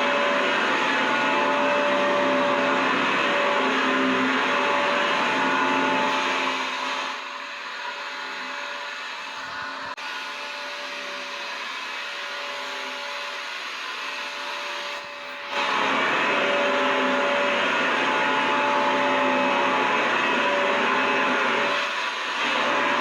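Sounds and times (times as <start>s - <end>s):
vacuum cleaner motor running: 0.0s - 23.0s.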